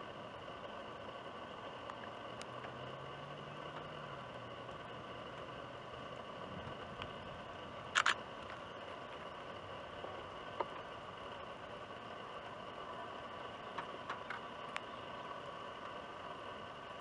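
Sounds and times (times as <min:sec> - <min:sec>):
faint high steady tones: 0:00.0 - 0:17.0
steady hiss: 0:00.0 - 0:17.0.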